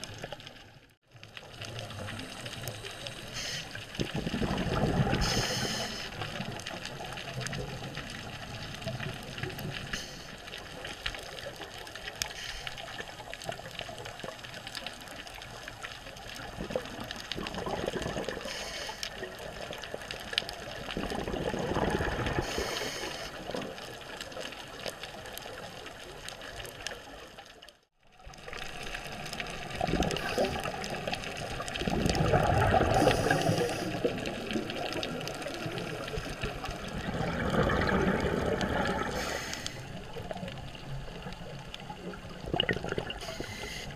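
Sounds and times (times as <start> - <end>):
regulator bubbles gurgling: 0.0 - 26.8, 28.1 - 43.9
steady underwater hiss: 1.4 - 20.9, 21.5 - 27.4, 28.5 - 43.9.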